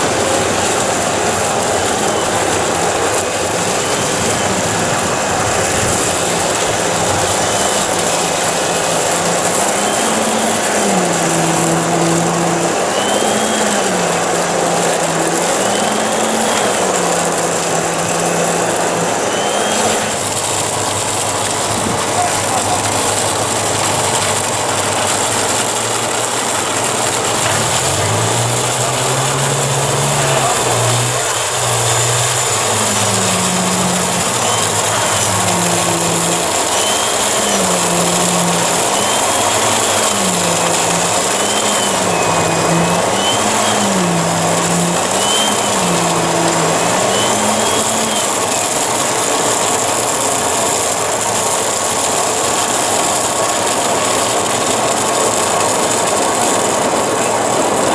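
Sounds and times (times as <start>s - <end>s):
heavy machine engine revving: 0.0s - 57.9s
site noise rush: 0.0s - 57.9s.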